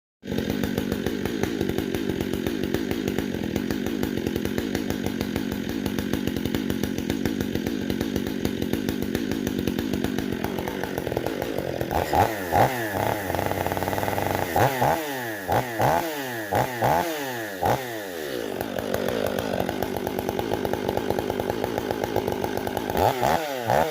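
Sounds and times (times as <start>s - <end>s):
chainsaw running and revving: 0.2s - 23.9s.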